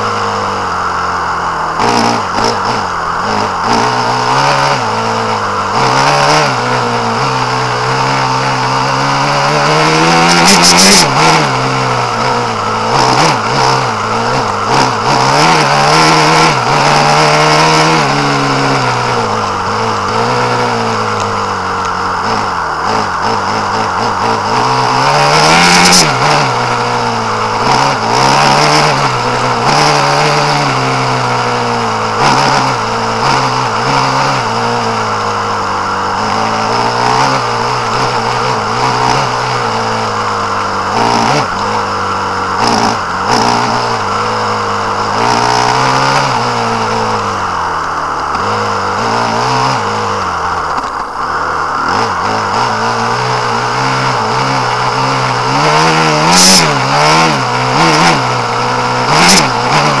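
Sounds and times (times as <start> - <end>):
small petrol engine revving: 0.0 - 60.0.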